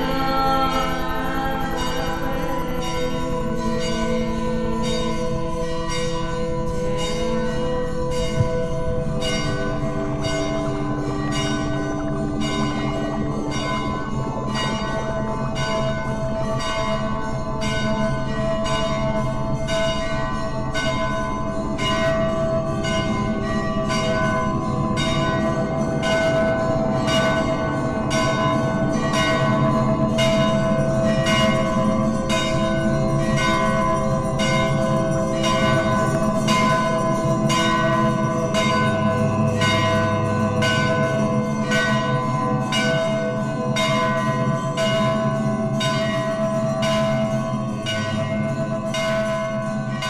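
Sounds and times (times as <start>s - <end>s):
bells struck rhythmically: 0.0s - 50.0s.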